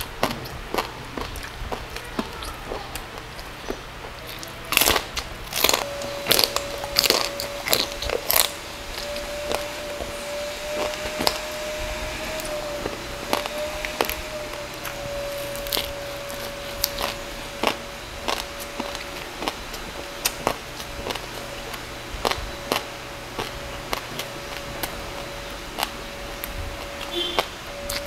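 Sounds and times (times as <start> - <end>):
crunchy chewing: 0.0 - 28.0.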